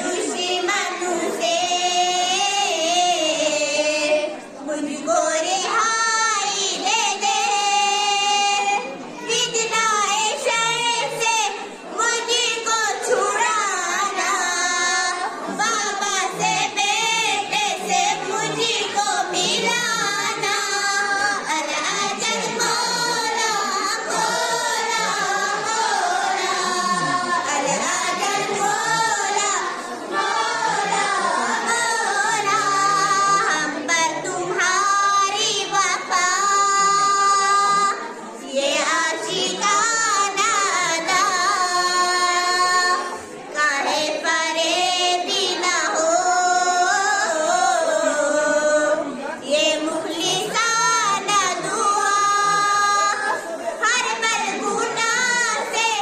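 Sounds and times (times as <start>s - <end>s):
girls singing together: 0.0s - 56.0s.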